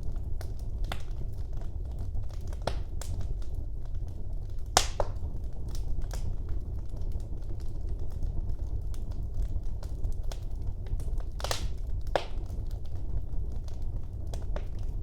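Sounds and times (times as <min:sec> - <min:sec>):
low rumble of flames: 0:00.0 - 0:15.0
wood fire crackles and pops: 0:00.0 - 0:15.0.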